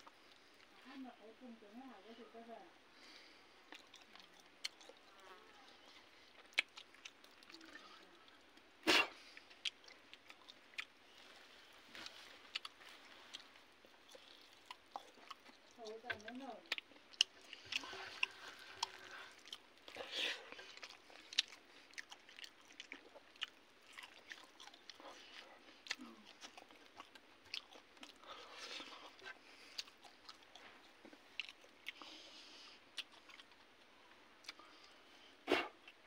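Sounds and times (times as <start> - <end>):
person chewing and crunching: 3.0 - 36.0.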